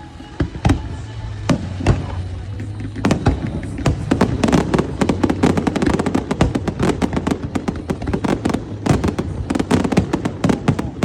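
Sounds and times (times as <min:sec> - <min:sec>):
fireworks banging and crackling: 0:00.4 - 0:11.0.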